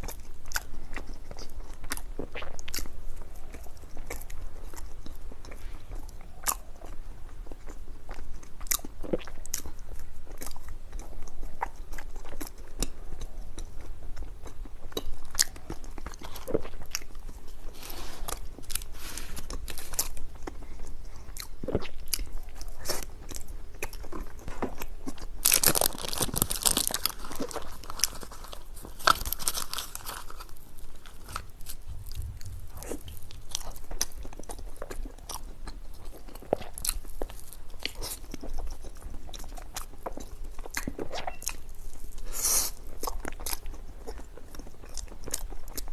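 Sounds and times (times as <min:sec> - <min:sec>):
crunchy chewing: 0:00.0 - 0:45.9.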